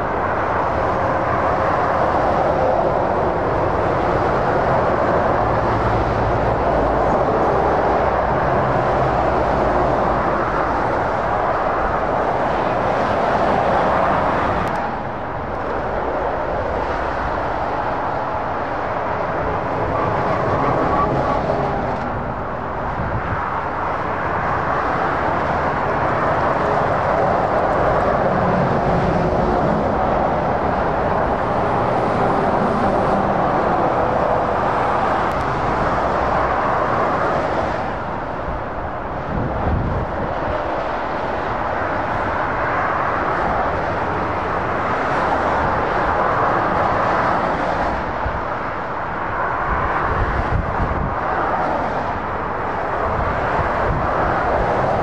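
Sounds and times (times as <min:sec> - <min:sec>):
heavy motorway traffic: 0:00.0 - 0:55.0.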